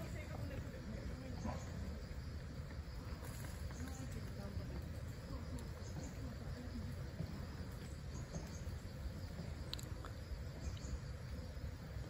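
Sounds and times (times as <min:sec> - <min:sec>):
faint insect chirring: 0:00.0 - 0:12.0
low outdoor rumble: 0:00.0 - 0:12.0.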